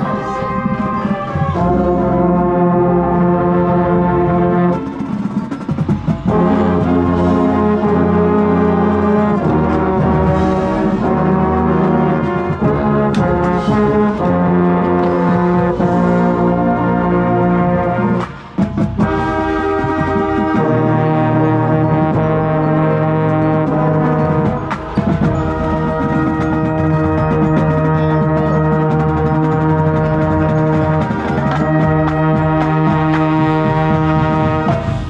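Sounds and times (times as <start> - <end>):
brass band playing chords: 0.0 - 35.0.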